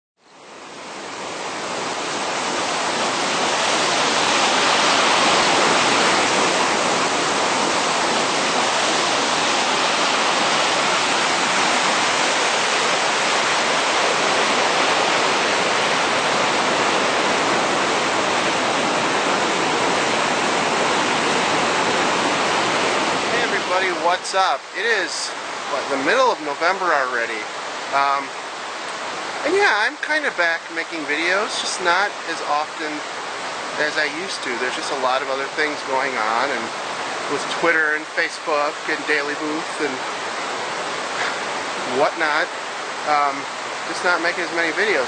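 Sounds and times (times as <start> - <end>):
waterfall rushing over rock: 0.3 - 45.0.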